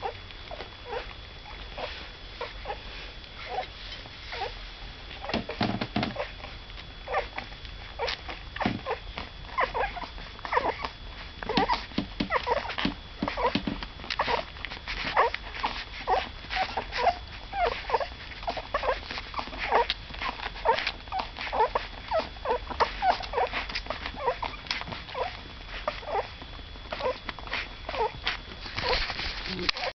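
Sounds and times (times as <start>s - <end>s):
puppies squeaking and whimpering: 0.0s - 3.7s, 4.3s - 29.9s.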